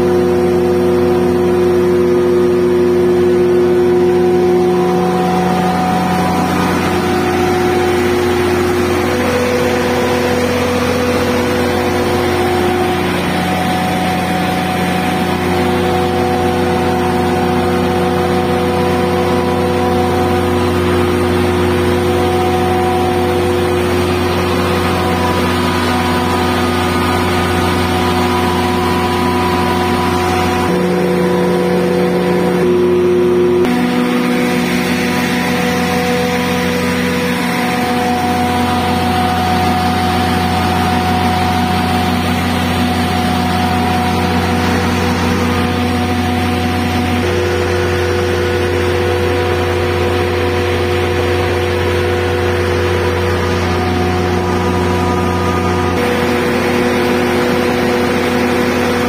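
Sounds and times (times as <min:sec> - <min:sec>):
diesel generator running: 0:00.0 - 0:59.0.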